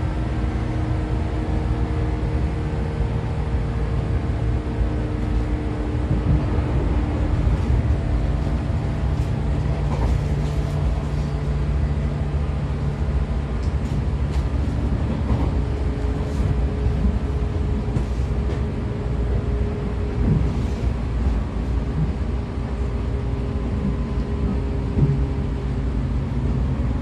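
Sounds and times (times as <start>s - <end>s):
train motors humming: 0.0s - 27.0s
train wheels rumbling on rails: 0.0s - 27.0s.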